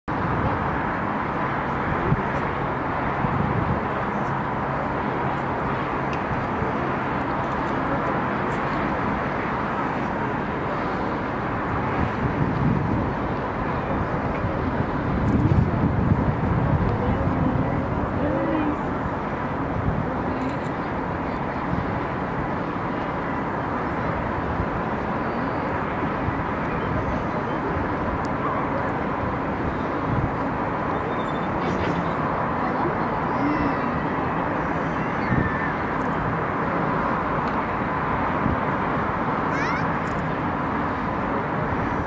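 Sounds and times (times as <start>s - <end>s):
distant traffic: 0.1s - 42.0s
wind rumbling on microphone: 0.1s - 42.0s.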